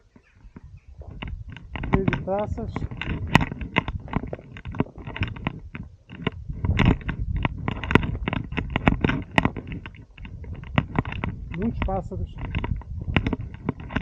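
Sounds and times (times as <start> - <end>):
footsteps crunching on loose stones: 0.0 - 14.0
low rumble: 0.6 - 14.0
stone clicks: 1.1 - 14.0.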